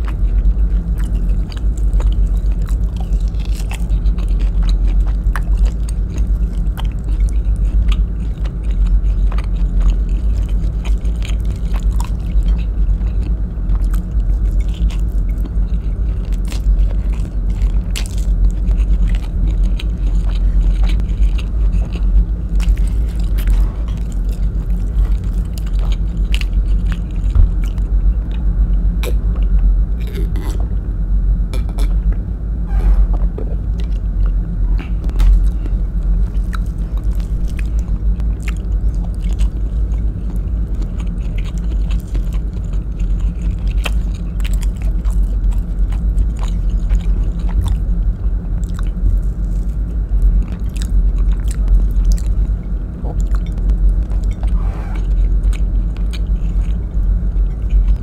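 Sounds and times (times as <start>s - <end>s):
chewing and mouth clicks: 0.0s - 30.8s, 31.5s - 32.2s, 33.2s - 58.0s
steady low hum: 0.0s - 58.0s.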